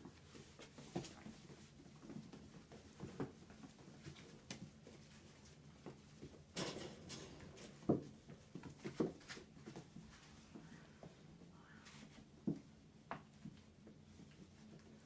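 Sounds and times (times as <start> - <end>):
puppies pattering on carpet: 0.0 - 6.6, 7.5 - 15.0.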